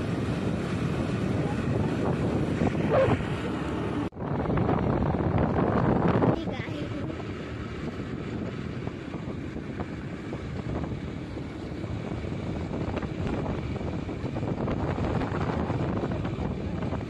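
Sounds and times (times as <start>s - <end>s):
vehicle driving on road: 0.0s - 17.0s
wind buffeting microphone: 0.0s - 17.0s.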